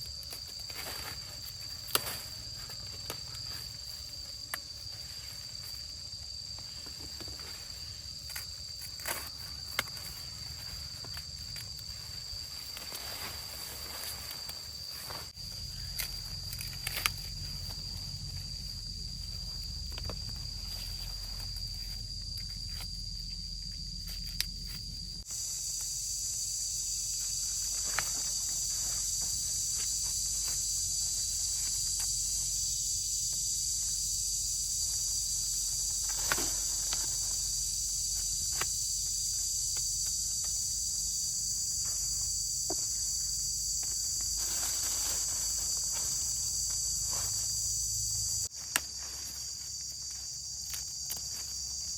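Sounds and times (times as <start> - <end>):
insect chorus chirring: 0.0 - 51.9.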